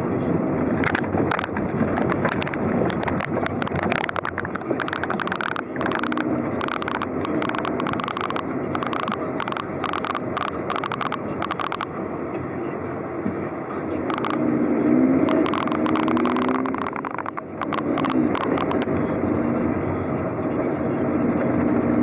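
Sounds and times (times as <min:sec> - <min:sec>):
car engine and road noise: 0:00.0 - 0:22.0
rapid crackling clicks: 0:00.5 - 0:12.0, 0:13.2 - 0:14.5, 0:15.2 - 0:20.4.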